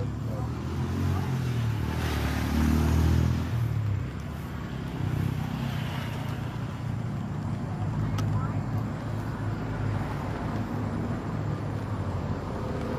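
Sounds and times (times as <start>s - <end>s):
vehicle engine and road hum: 0.0s - 12.9s.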